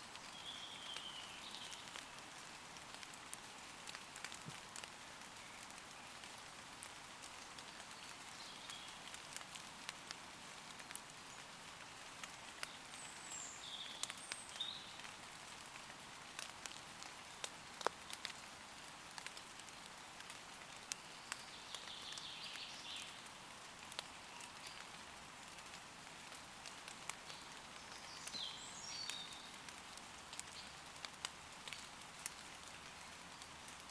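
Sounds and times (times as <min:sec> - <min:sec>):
light rain pattering on leaves: 0:00.0 - 0:33.9.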